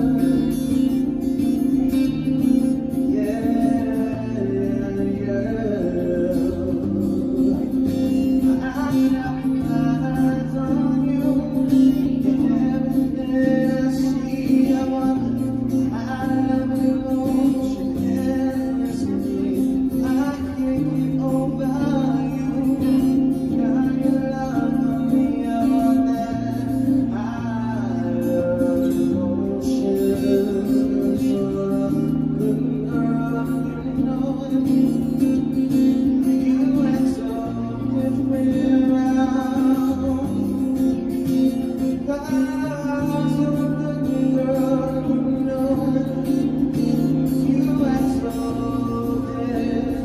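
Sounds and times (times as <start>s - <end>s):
man singing into microphone: 0.0s - 50.0s
strummed acoustic guitar: 0.0s - 50.0s.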